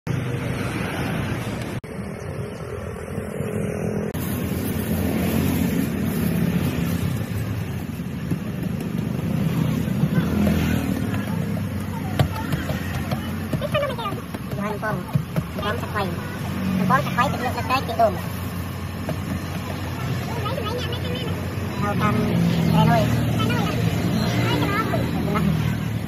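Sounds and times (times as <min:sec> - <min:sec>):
vehicle engines rumbling: 0:00.1 - 0:26.0.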